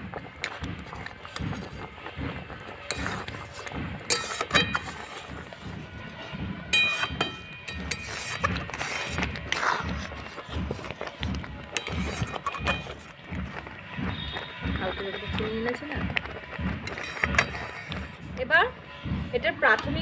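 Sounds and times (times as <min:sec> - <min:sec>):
metal spatula scraping wok: 0:00.4 - 0:18.5.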